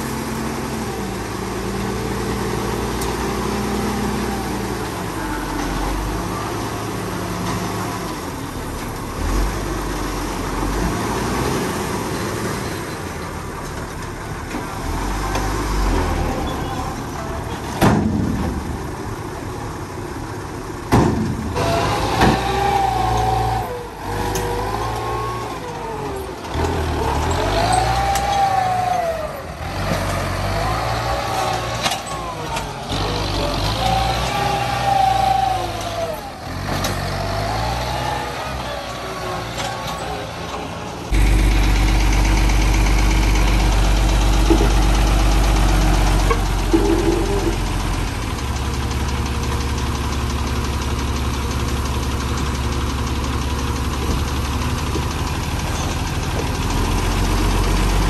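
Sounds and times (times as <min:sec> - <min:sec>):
diesel truck engine running: 0:00.0 - 0:58.0
heavy machinery engine revving: 0:00.0 - 0:58.0.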